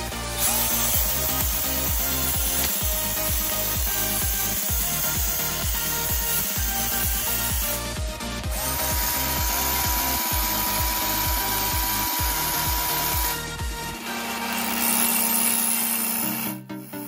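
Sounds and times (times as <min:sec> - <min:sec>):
electronic dance music: 0:00.0 - 0:15.2
cordless drill running: 0:00.0 - 0:17.0
metal shaft against sandpaper: 0:00.0 - 0:17.0.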